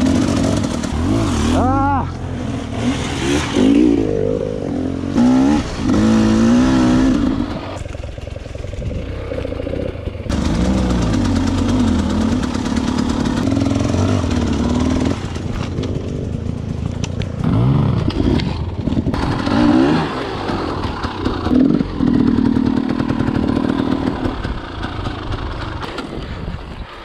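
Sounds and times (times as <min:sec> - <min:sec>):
motorcycle engine revving: 0:00.0 - 0:26.3.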